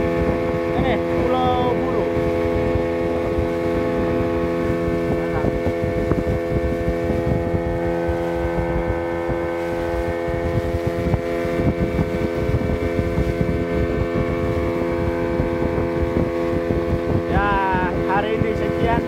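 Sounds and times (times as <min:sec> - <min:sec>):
boat engine running: 0:00.0 - 0:19.0
water rushing past hull: 0:00.0 - 0:19.0
wind buffeting microphone: 0:00.0 - 0:19.0.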